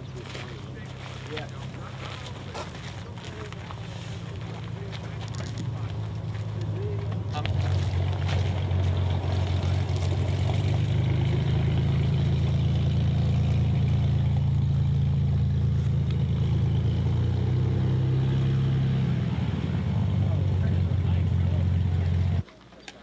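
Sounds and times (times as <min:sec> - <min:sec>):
engine idling hum: 0:00.0 - 0:22.4.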